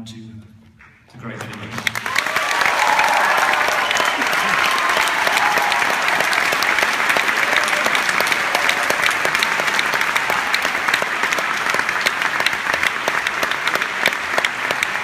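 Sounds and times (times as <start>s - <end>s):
audience applauding: 1.2s - 15.0s
close individual claps: 1.5s - 15.0s.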